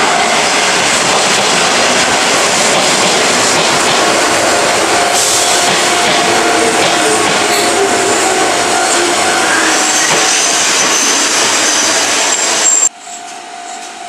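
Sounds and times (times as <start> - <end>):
train passing on rails: 0.0 - 14.0.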